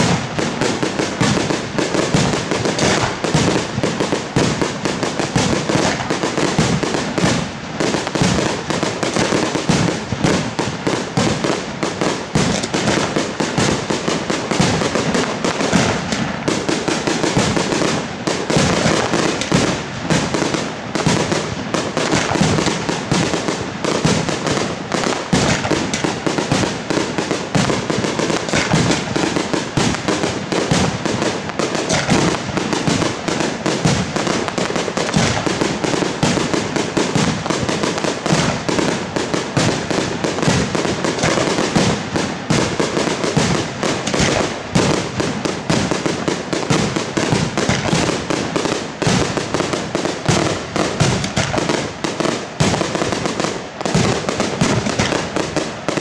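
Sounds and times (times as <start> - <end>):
firework crackle: 0.0 - 56.0.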